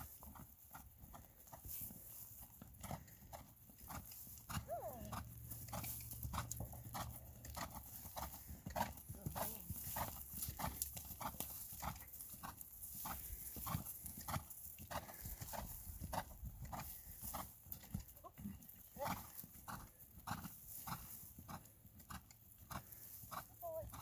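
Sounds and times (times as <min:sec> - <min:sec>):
horse hooves cantering on grass: 0:00.0 - 0:24.0.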